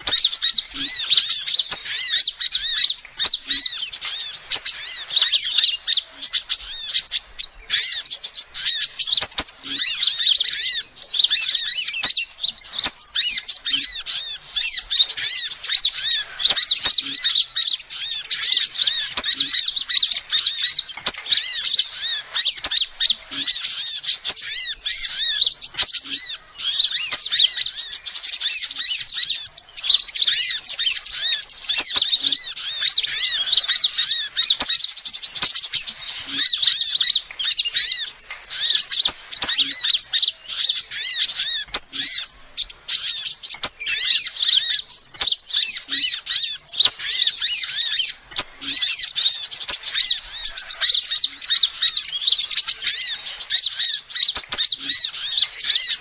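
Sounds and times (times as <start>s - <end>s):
sunbird chirps and trills: 0.0s - 56.0s.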